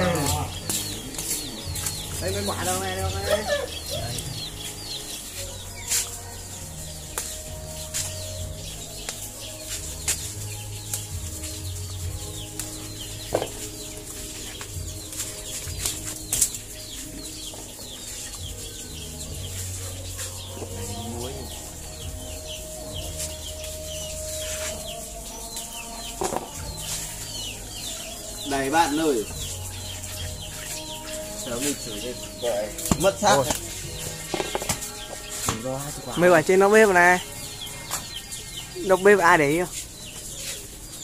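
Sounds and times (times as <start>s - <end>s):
chickens clucking and cheeping: 0.0s - 41.0s
leaves and twigs rustling: 0.0s - 41.0s.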